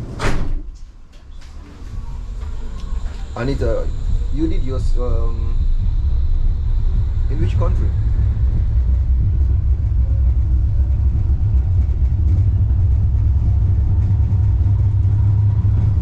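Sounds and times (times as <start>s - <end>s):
suspension railway car rumbling: 0.0s - 16.0s.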